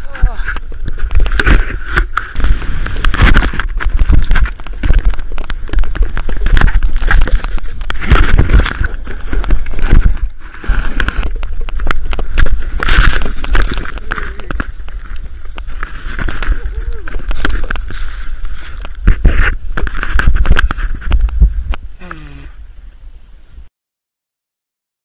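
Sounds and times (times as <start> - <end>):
wind rushing over microphone: 0.0 - 23.4.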